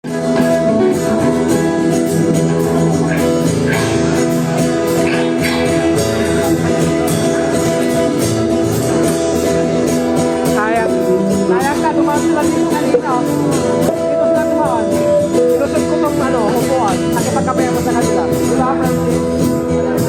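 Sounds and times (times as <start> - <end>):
guitars: 0.0 - 20.0.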